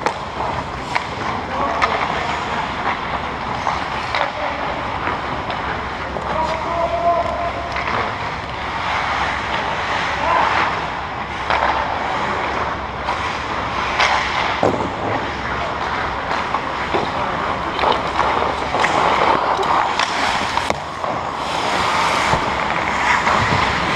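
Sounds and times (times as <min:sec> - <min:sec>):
skate blades scraping on ice: 0:00.0 - 0:23.9.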